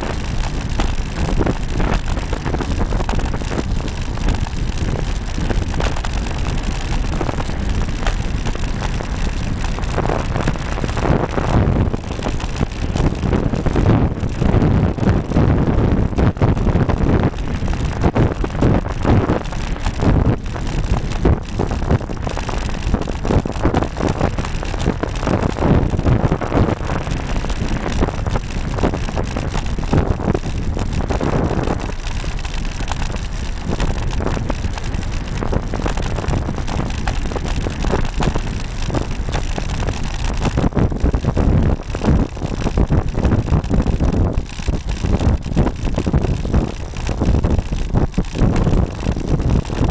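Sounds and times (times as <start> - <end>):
knocks and rattles from road vibration: 0.0 - 49.9
wind buffeting microphone: 0.0 - 49.9.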